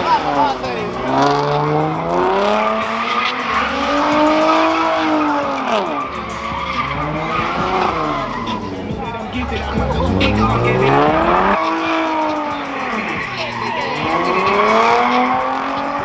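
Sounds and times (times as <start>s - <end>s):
tyres squealing: 0.0s - 15.3s
car engine revving hard: 0.0s - 16.0s.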